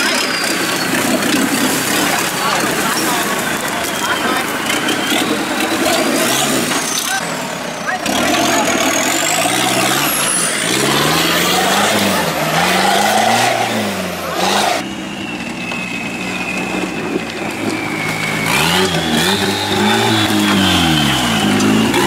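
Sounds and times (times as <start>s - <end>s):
off-road engines revving hard: 0.0s - 22.0s.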